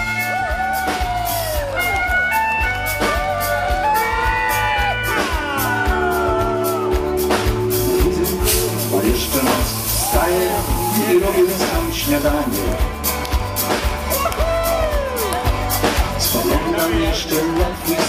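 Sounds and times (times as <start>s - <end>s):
pedal steel guitar melody: 0.0s - 17.6s
acoustic guitar: 0.0s - 18.0s
bass: 0.0s - 18.0s
drums: 0.0s - 18.0s.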